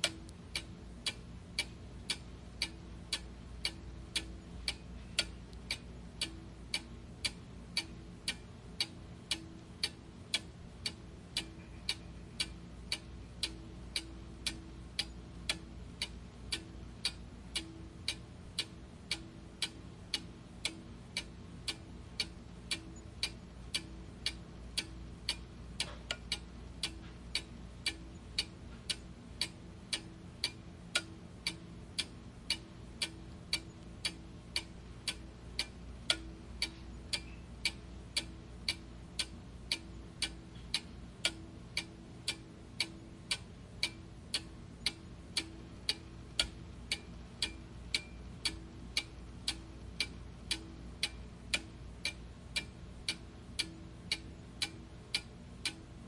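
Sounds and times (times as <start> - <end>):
clock ticking: 0.0 - 56.0
faint low hum: 0.0 - 56.0.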